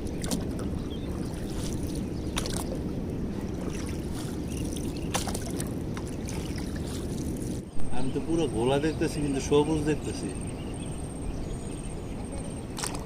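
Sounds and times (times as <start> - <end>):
water and wind around boat: 0.0 - 13.0.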